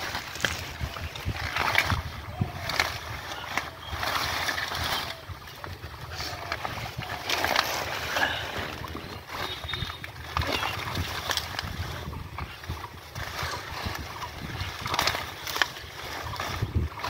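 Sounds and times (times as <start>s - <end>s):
leaves and stems rustling: 0.0s - 17.0s
small water splashes: 0.0s - 17.0s.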